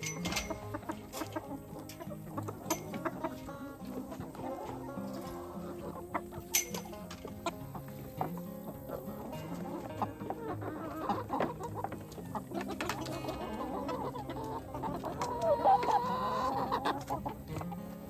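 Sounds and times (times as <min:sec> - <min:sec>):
background music: 0:00.0 - 0:18.0
chickens clucking: 0:00.0 - 0:18.0.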